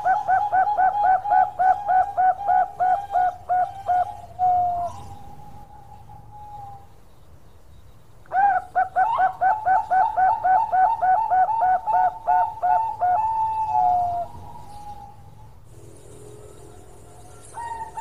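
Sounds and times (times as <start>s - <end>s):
dove cooing: 0.0s - 6.9s, 8.3s - 18.0s.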